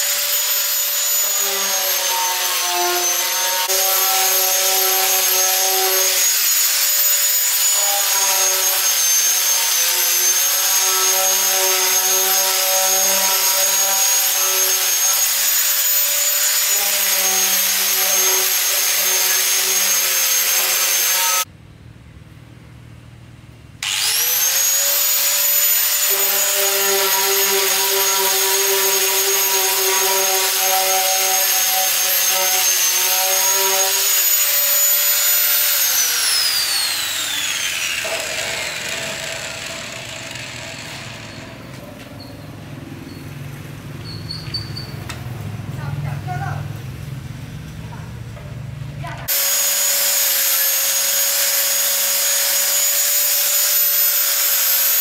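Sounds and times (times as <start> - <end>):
angle grinder motor whine: 0.0 - 21.5, 23.8 - 42.5, 49.2 - 55.0.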